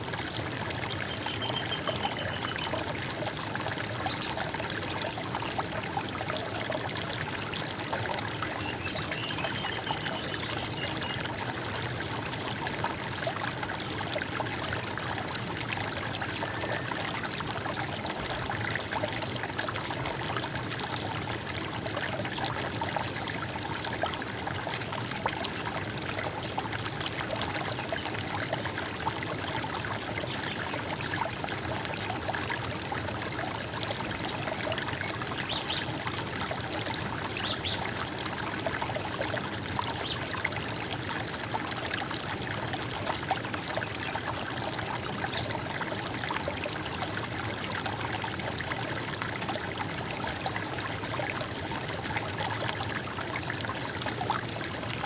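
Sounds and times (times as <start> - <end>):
stream water gurgling: 0.0 - 55.0.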